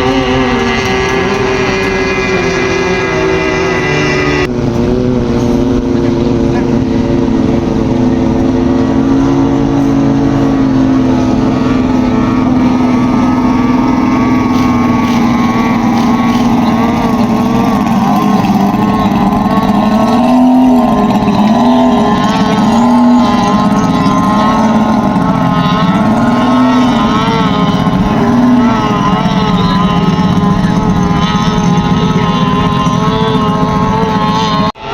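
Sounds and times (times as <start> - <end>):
powerboat engine revving: 0.0 - 34.9.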